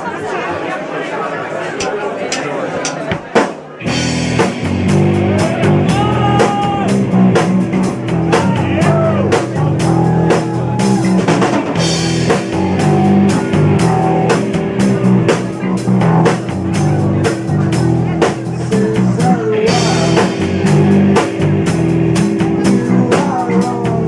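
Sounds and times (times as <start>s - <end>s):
rock band playing live: 3.0s - 24.0s.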